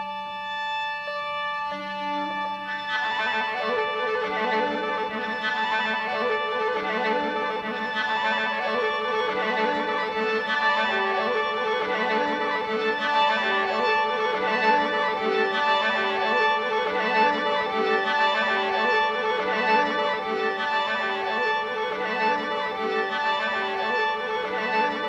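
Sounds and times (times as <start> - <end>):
violin repeating figure: 1.0 - 25.0.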